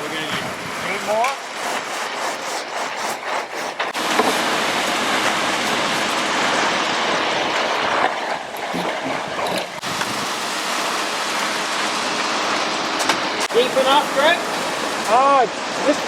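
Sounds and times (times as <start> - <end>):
wet concrete pouring down chute: 0.0 - 16.0.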